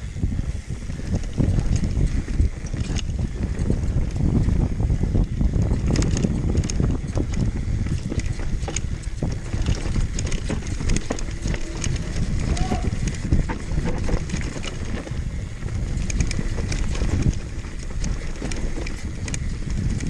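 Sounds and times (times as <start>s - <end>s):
bike rattling clicks: 0.0s - 20.0s
mountain bike rumbling over rough trail: 0.0s - 20.0s
wind buffeting microphone: 0.0s - 20.0s.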